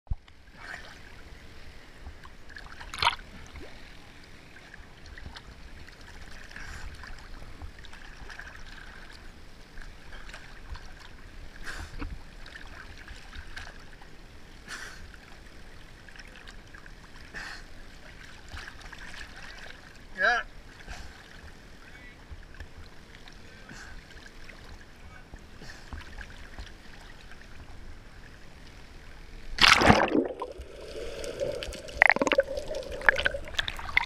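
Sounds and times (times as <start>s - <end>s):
water trickling and lapping: 0.2s - 34.0s.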